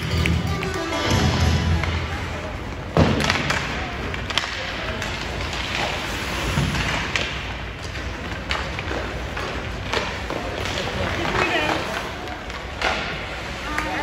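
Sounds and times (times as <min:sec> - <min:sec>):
skates scraping ice: 0:00.0 - 0:14.0
sticks and puck clacking: 0:00.0 - 0:14.0.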